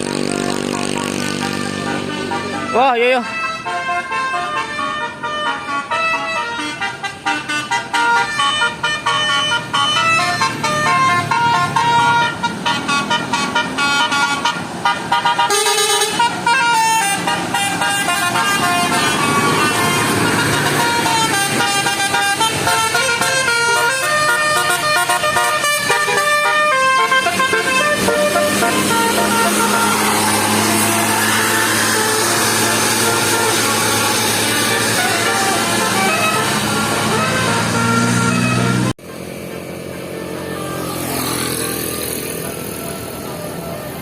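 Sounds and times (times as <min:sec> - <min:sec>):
musical bus horn tune: 0:00.0 - 0:39.1
bus engine: 0:00.0 - 0:44.0
road noise: 0:00.0 - 0:44.0.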